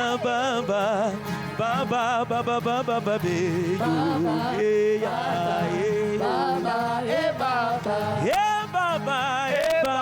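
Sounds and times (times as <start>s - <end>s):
voices singing gospel: 0.0s - 10.0s.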